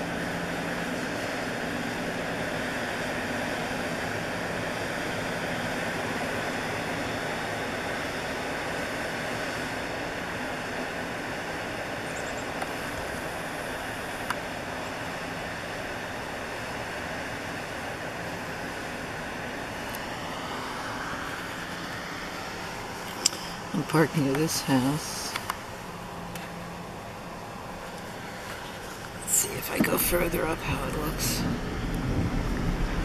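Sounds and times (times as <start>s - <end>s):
distant roar of pumping equipment: 0.0s - 33.0s.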